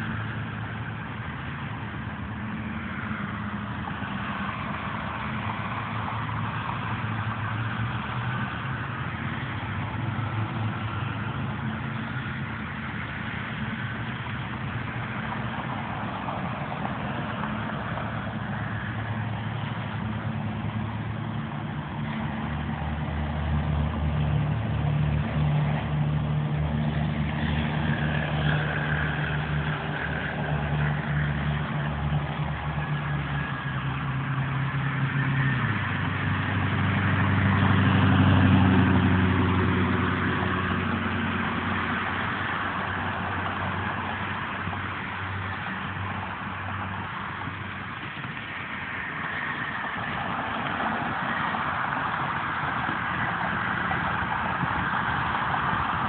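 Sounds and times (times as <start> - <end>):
tyre noise from passing vehicles: 0.0 - 56.0
vehicle engines running: 0.0 - 56.0.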